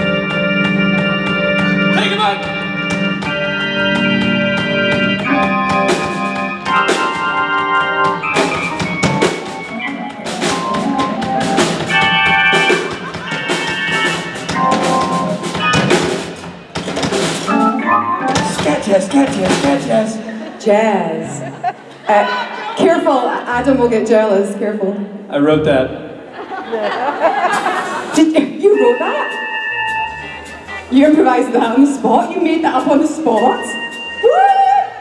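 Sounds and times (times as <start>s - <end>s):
steady drum beat: 0.0s - 20.4s, 23.5s - 24.2s, 27.1s - 34.8s
electronic organ playing jazzy chords: 0.0s - 20.6s, 23.4s - 24.3s, 27.4s - 35.0s.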